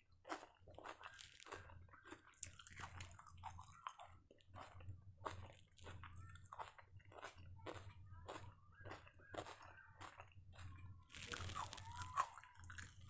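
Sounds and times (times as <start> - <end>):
person chewing and smacking lips: 0.0 - 13.0.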